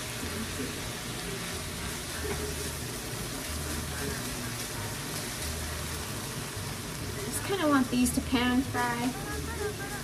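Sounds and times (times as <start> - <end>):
food sizzling in a frying pan: 0.0 - 10.0
spatula stirring in a pan: 0.0 - 10.0.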